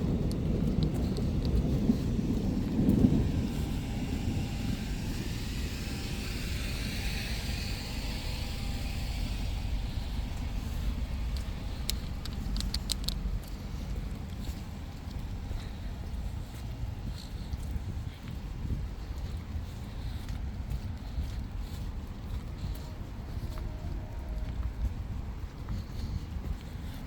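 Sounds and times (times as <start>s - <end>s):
low stormy outdoor rumble: 0.0s - 27.0s.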